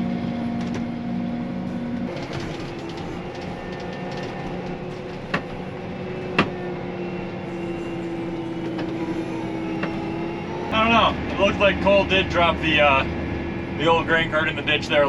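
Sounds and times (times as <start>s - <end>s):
farm machine engine running: 0.0s - 15.0s.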